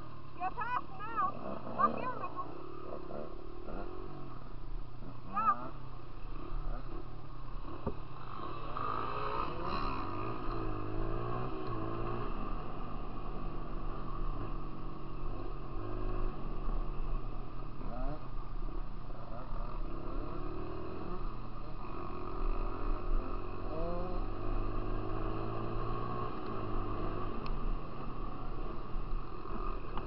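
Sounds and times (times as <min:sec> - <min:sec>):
dirt bike engine revving: 0:01.2 - 0:30.0.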